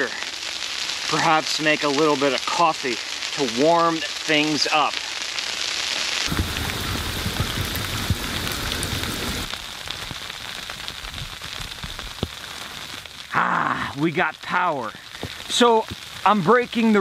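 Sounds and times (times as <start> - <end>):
icy snow pattering on a tent: 0.0 - 17.0.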